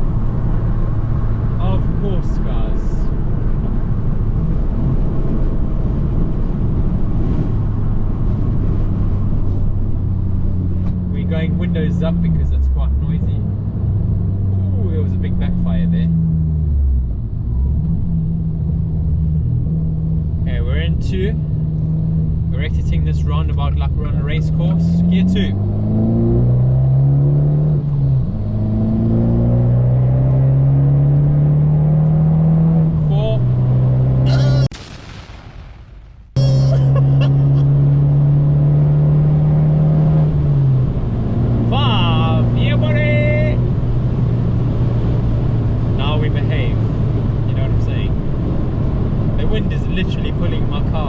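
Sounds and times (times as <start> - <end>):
car engine cruising: 0.0 - 34.7, 36.4 - 51.0
road and wind noise: 0.0 - 51.0.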